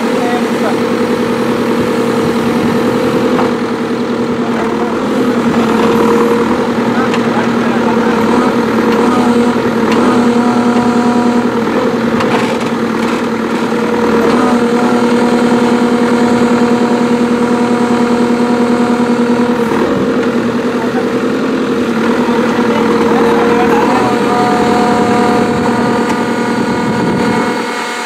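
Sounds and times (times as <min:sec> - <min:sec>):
diesel engine under load: 0:00.0 - 0:28.0.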